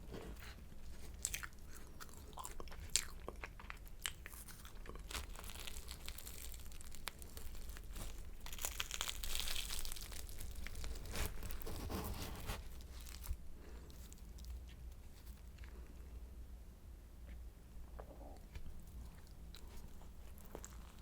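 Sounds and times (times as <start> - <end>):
croissant pastry crackling: 0.0 - 16.0, 18.4 - 21.0.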